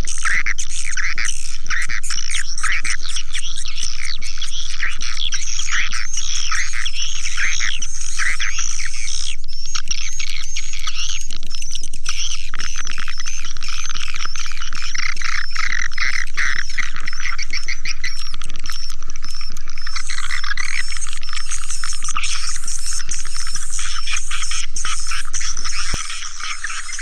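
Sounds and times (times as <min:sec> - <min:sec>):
swiftlets twittering and chirping: 0:01.8 - 0:27.0.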